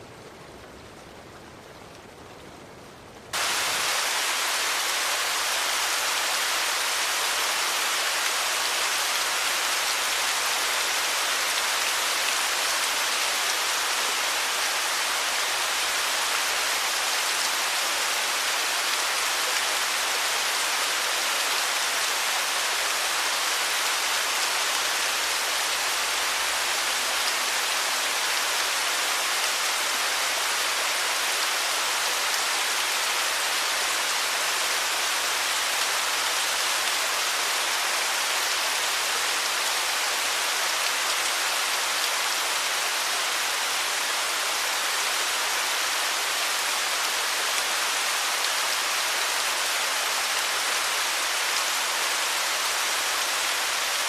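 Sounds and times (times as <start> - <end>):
running water rushing: 3.4 - 54.0.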